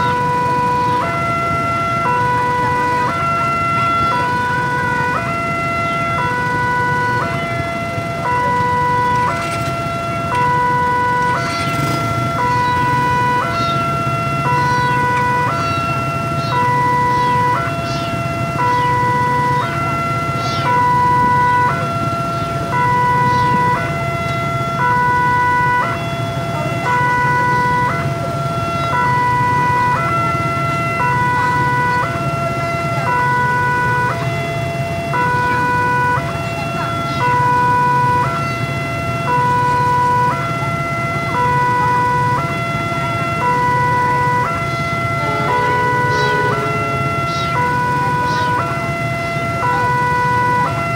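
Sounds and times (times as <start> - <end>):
idling traffic rumble: 0.0 - 50.9
two-tone crossing alarm: 0.0 - 50.9.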